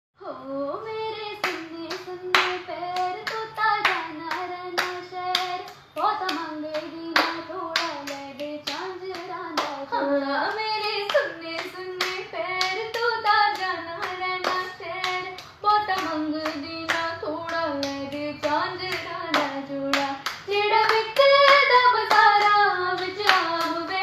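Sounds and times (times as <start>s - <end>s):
woman singing unaccompanied: 0.2s - 24.0s
hand claps: 1.4s - 9.9s, 10.5s - 24.0s.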